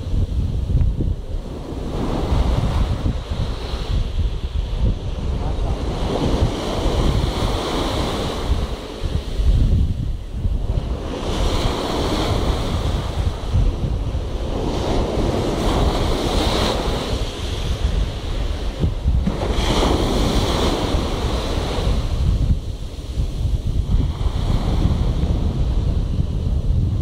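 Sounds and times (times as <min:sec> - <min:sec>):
sea waves breaking: 0:00.0 - 0:27.0
wind buffeting microphone: 0:00.0 - 0:27.0.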